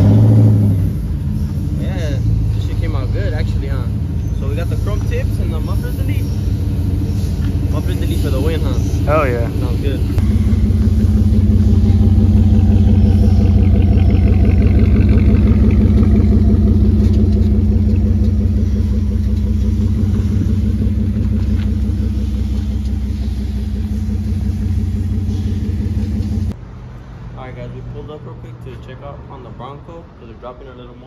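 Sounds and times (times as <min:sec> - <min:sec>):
vehicle engine running: 0:00.0 - 0:26.6.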